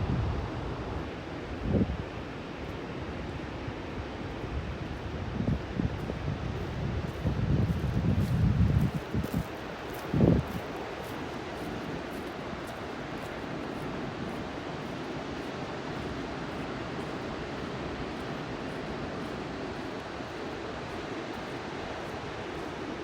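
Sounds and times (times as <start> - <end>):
steady outdoor rushing hiss: 0.0 - 23.0.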